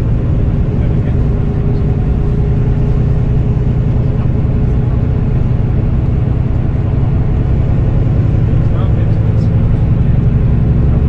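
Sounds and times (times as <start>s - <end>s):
diesel coach engine running: 0.0s - 11.0s
road and tyre noise: 0.0s - 11.0s.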